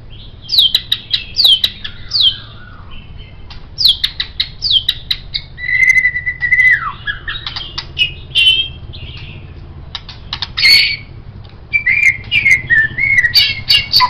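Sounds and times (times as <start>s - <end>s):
bird singing whistles and clicks: 0.5s - 11.1s, 11.7s - 14.0s.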